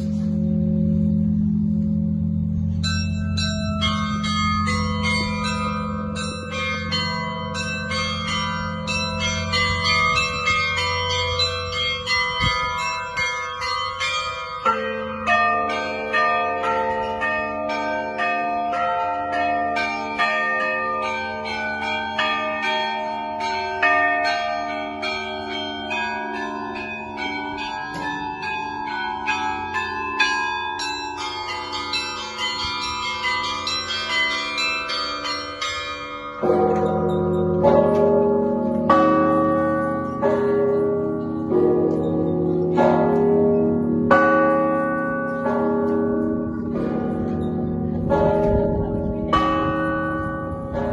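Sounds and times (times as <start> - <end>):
deep heavy bells: 0.0 - 50.9
steady lower bell ringing: 0.0 - 50.9
small high bells ringing: 2.7 - 50.9.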